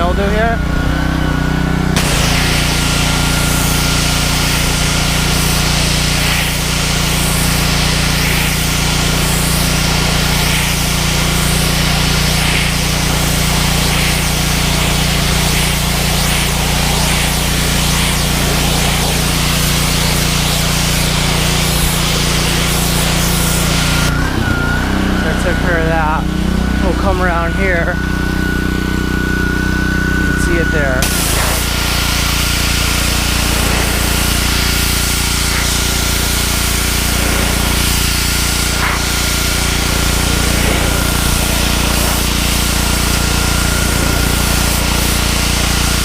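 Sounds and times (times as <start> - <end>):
water spraying onto wooden boards: 0.0 - 27.8, 30.3 - 46.0
pressure washer engine hum: 0.0 - 46.0.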